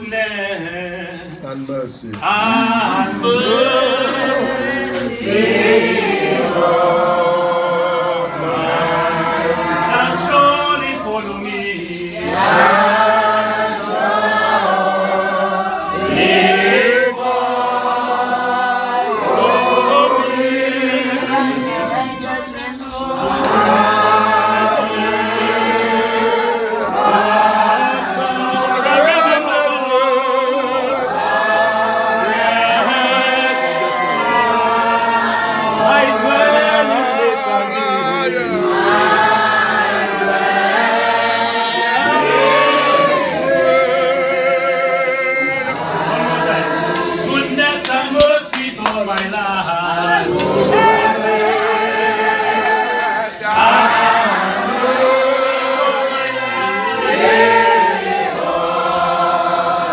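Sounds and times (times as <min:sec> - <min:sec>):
congregation singing gospel chorus: 0:00.0 - 0:59.9.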